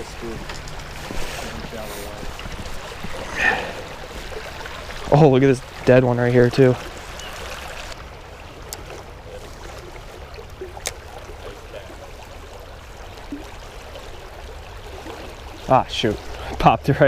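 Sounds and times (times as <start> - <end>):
river water running over rocks: 0.0 - 17.0.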